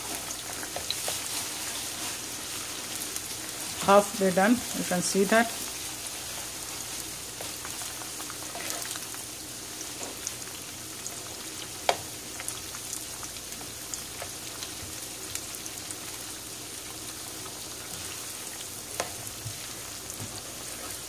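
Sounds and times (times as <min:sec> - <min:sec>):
chicken frying in oil: 0:00.0 - 0:21.0.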